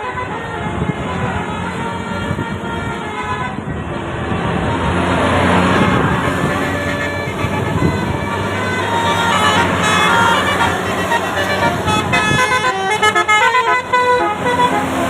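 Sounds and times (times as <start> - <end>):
musical bus air horn: 0.0 - 3.8, 5.6 - 15.0
vehicle noise: 0.0 - 15.0.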